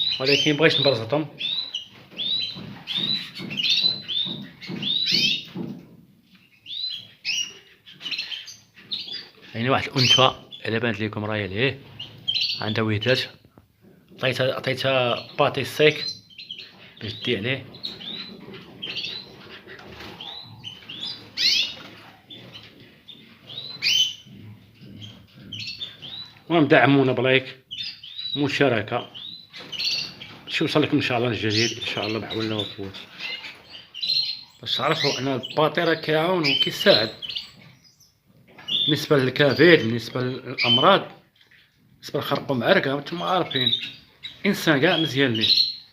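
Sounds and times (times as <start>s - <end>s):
small cage birds chirping: 0.0s - 45.9s.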